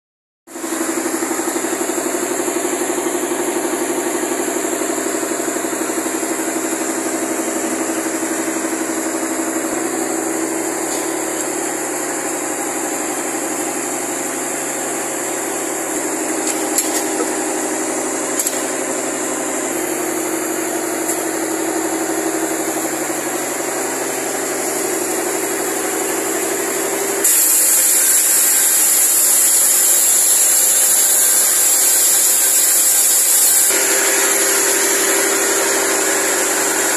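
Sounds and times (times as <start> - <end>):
diesel engine running: 0.6 - 29.0, 33.4 - 36.9.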